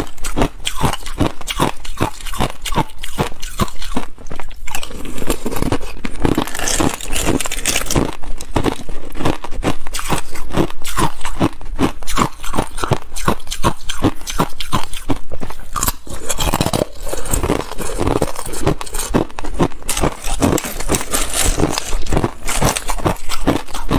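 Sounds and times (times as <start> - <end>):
person chewing ice: 0.0 - 23.9.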